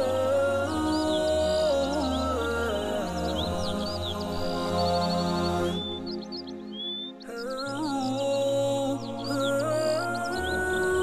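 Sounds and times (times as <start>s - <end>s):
ambient music of held tones: 0.0s - 11.0s
birdsong chirping: 0.0s - 11.0s.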